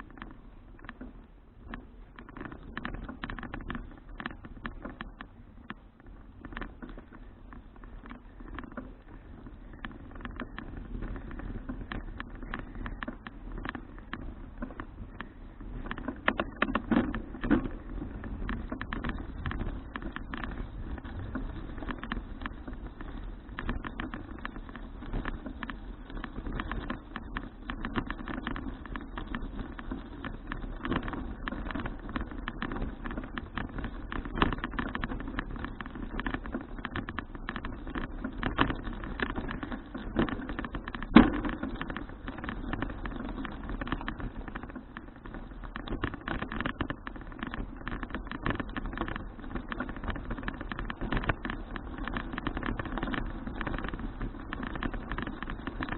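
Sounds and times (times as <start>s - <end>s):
bicycle rattles and clicks: 0.0s - 55.9s
bicycle tyres rumbling on road: 0.0s - 55.9s.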